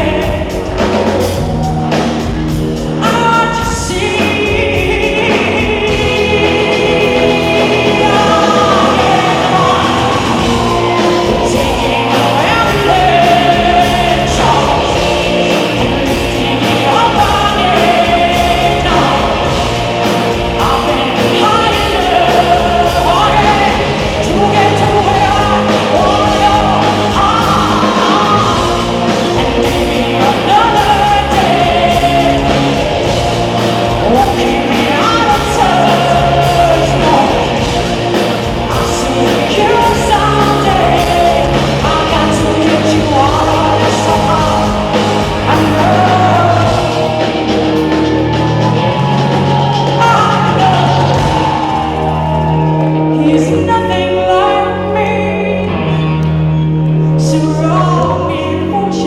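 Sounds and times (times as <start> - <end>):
woman singing: 0.0 - 1.5, 3.0 - 47.2, 49.5 - 52.1, 53.1 - 56.1, 57.1 - 59.0
live rock band playing: 0.0 - 59.0.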